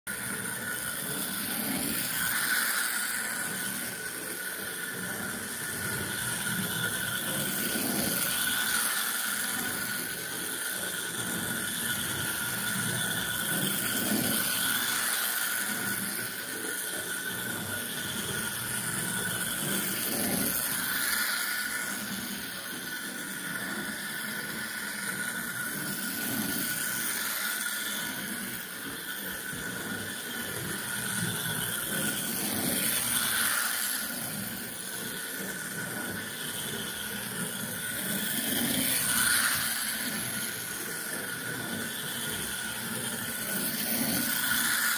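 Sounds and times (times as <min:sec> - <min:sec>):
toy electric motor whine: 0:00.1 - 0:44.9.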